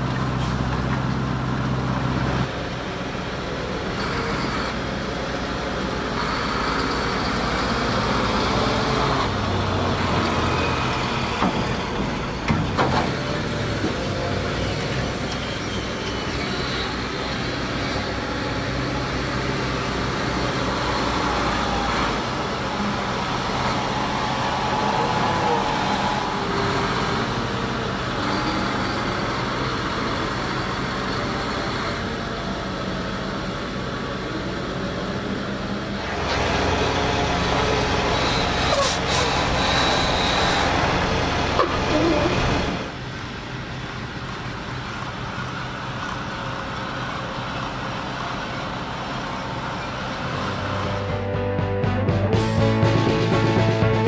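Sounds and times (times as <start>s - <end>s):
farm loader machinery running: 0.0s - 54.0s
tractor diesel engine running: 0.0s - 54.0s.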